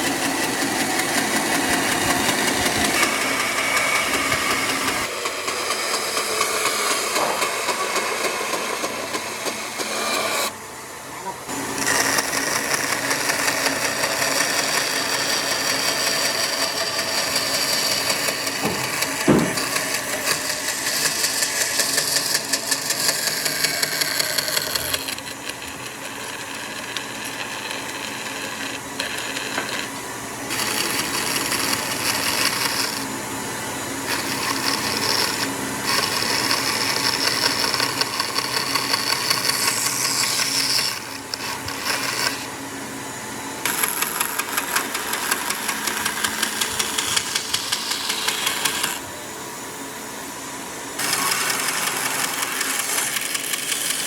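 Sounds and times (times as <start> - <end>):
electric power tool on wood: 0.0 - 10.6, 11.5 - 54.0.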